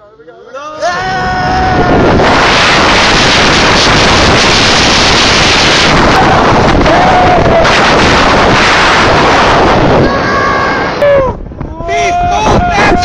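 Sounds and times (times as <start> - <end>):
wind rushing over microphone: 0.9 - 13.0.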